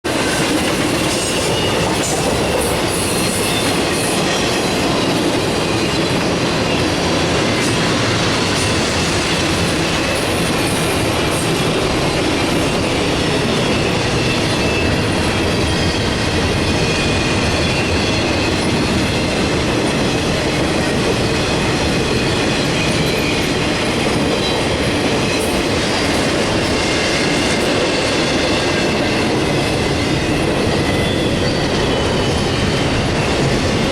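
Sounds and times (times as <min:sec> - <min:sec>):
freight train rumbling and rattling: 0:00.0 - 0:33.9.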